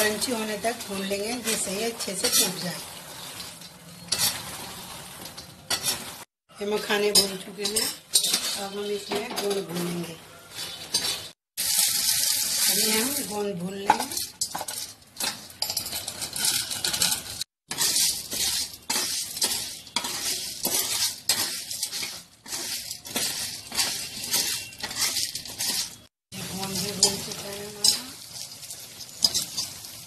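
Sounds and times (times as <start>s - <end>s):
gum sizzling and crackling in oil: 0.0s - 9.1s, 9.8s - 30.0s.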